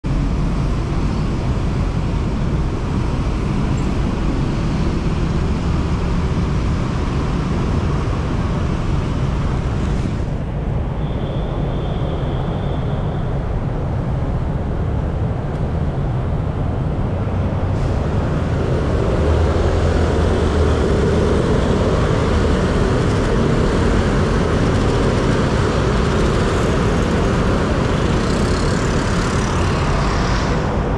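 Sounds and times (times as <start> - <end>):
motor scooters and cars passing: 0.1 - 30.9.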